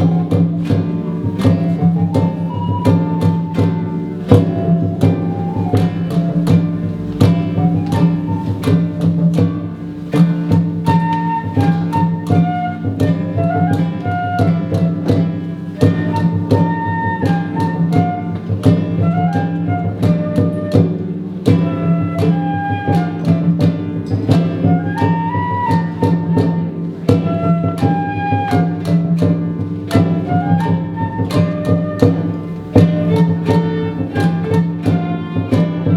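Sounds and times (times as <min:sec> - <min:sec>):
percussion strikes: 0:00.0 - 0:35.9.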